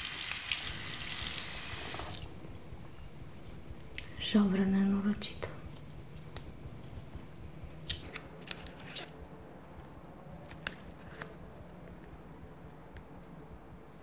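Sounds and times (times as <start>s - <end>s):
faint low hum: 0.6s - 14.0s.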